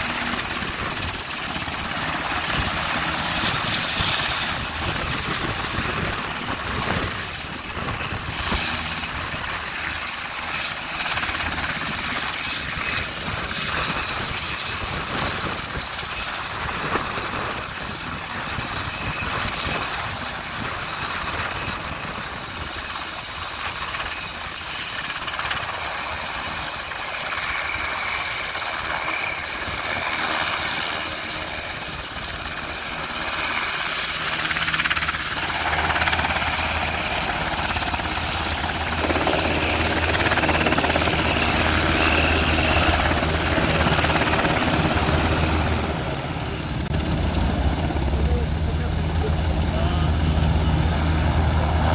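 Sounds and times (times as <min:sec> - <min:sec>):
helicopter turbine and rotor noise: 0:00.0 - 0:51.9.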